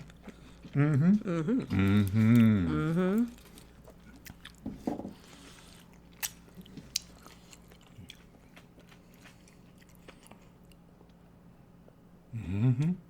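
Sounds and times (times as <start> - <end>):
chewing crunchy chips: 0.0 - 11.2.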